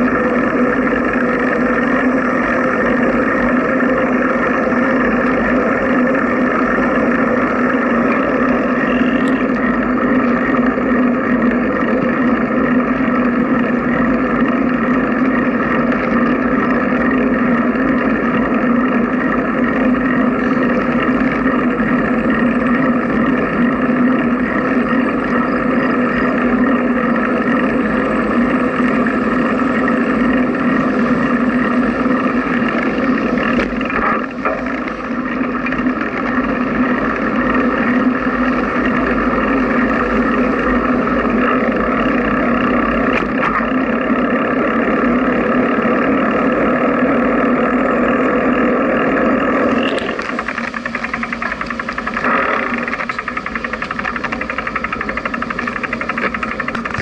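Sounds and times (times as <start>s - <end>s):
wind and road noise while cycling: 0.0s - 57.0s.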